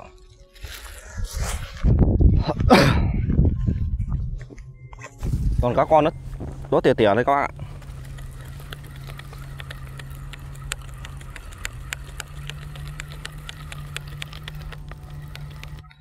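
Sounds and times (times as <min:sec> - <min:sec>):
low motor hum: 0:01.8 - 0:16.0.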